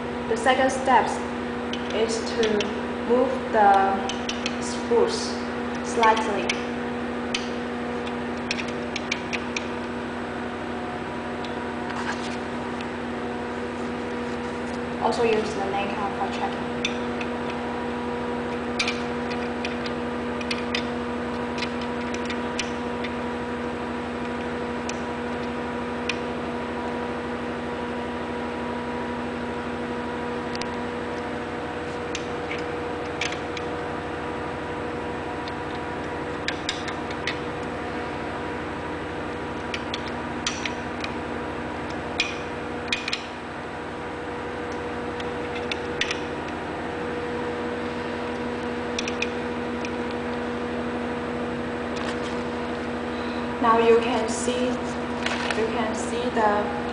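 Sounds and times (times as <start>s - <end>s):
steady electrical hum: 0.0s - 56.9s.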